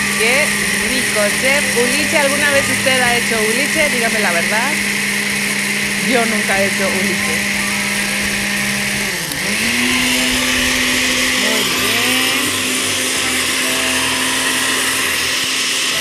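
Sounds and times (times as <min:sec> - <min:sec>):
blender motor humming: 0:00.0 - 0:16.0.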